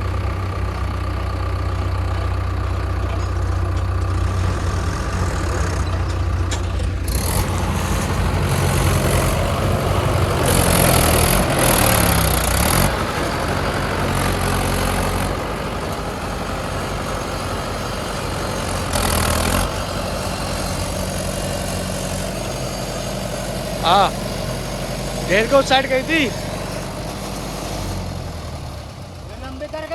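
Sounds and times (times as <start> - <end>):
diesel engine revving: 0.0 - 29.9.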